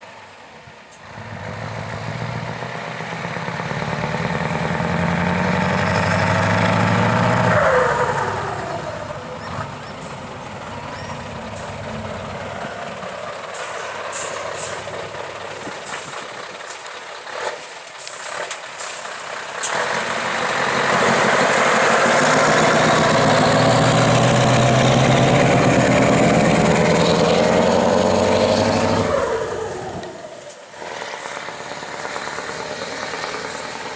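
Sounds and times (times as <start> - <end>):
diesel truck engine working hard: 1.0 - 33.9
exhaust pops: 3.7 - 33.9.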